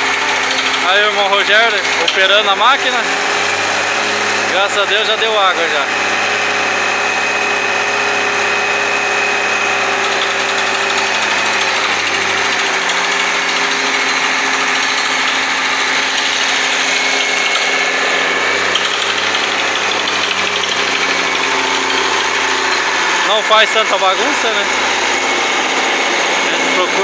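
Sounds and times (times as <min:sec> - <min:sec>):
air compressor running: 0:00.0 - 0:27.0
drilling rig engine: 0:00.0 - 0:27.0.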